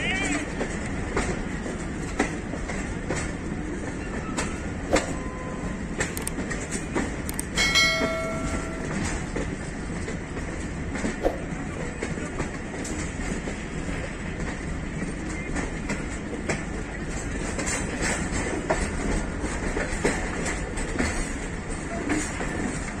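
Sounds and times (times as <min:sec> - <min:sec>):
train rumbling along track: 0:00.0 - 0:23.0.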